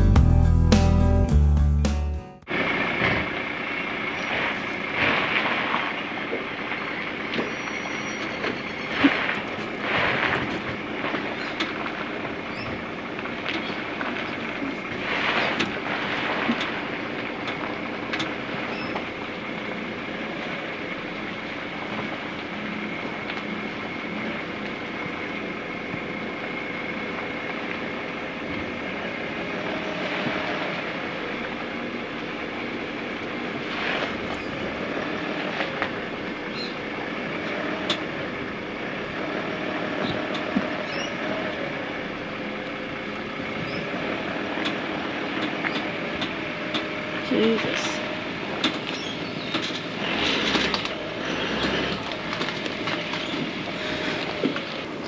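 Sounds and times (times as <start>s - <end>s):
tyres rolling over dirt: 2.5s - 55.0s
vehicle engine running at low speed: 2.5s - 55.0s.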